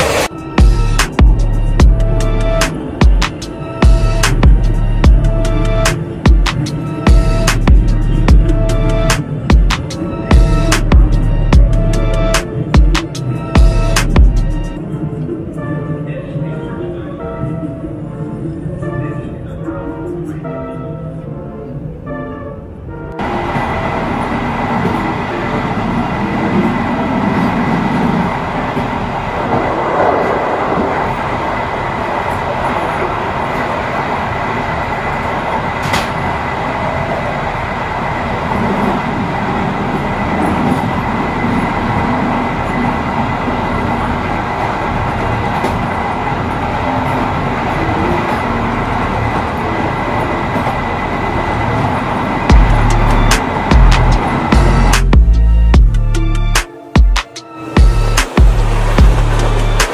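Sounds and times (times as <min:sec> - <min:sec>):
train wheels rumbling on rails: 0:00.0 - 0:15.7, 0:23.1 - 0:59.9.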